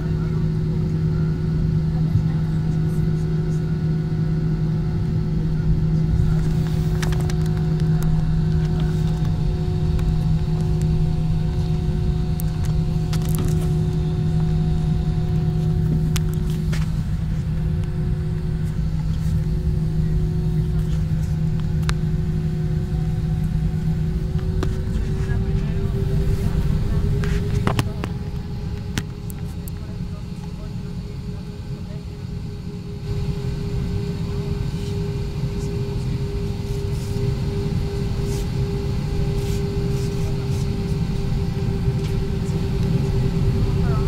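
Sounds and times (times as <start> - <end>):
jet engines rumbling in cabin: 0.0 - 44.0.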